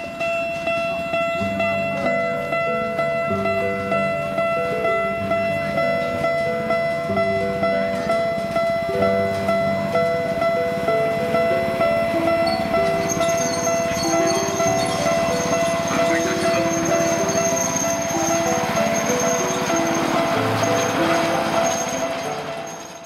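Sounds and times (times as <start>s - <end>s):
piano background music: 0.0s - 23.0s.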